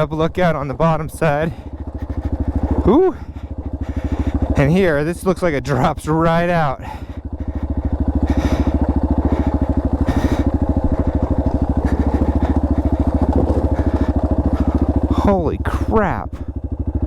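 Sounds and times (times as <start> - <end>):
dirt bike engine chugging: 0.0 - 17.0.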